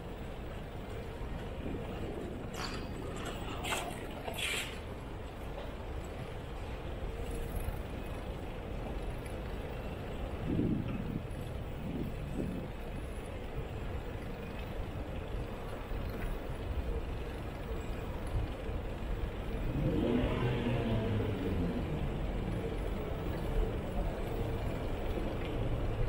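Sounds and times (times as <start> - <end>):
traffic road noise rumble: 0.0 - 26.0.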